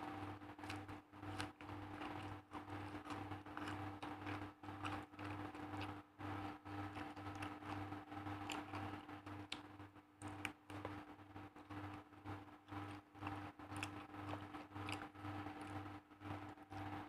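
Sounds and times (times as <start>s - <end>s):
faint clicks of eating by hand: 0.0s - 17.0s.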